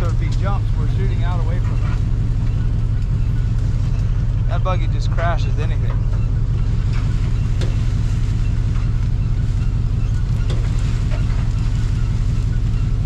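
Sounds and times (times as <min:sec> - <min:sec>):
swamp buggy engine droning: 0:00.0 - 0:13.0.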